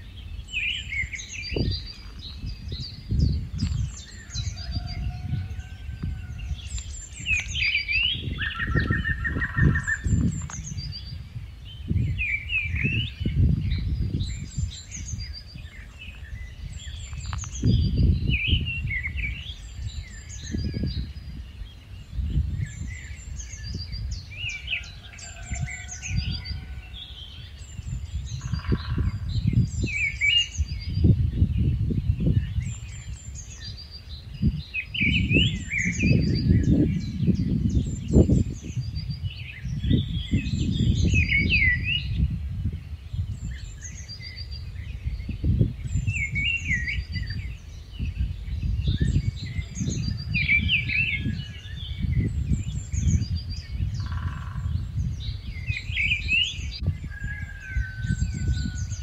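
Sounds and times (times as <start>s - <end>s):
birds chirping: 0.0s - 59.0s
wind rumble on microphone: 0.0s - 59.0s.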